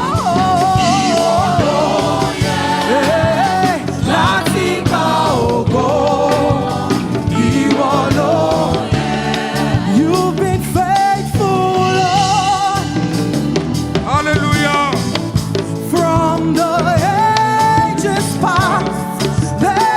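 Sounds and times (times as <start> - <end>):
person singing with vibrato: 0.0 - 13.3, 15.7 - 19.9
band accompaniment: 0.0 - 19.9.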